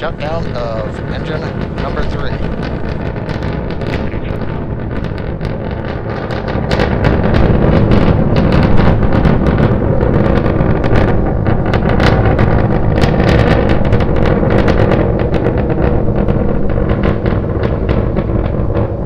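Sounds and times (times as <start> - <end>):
rocket engines roaring: 0.0 - 19.0.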